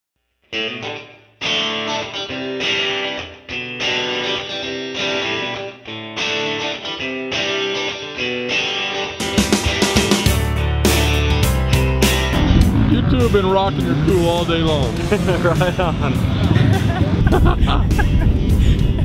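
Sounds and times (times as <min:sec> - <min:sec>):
strummed guitar chords: 0:00.5 - 0:19.0.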